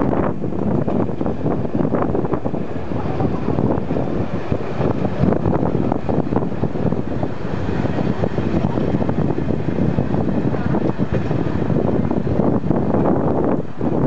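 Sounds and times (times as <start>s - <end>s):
train running rumble: 0.0s - 14.0s
wind buffeting microphone: 0.0s - 14.0s.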